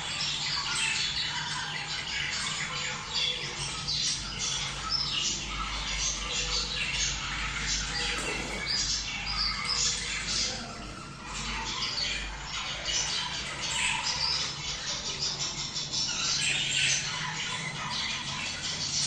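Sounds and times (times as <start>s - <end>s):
budgerigars chattering and squawking: 0.0s - 19.0s.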